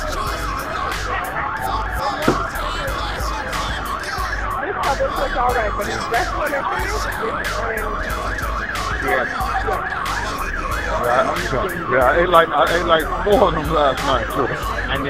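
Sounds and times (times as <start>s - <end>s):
siren in fast yelp mode: 0.0s - 15.0s.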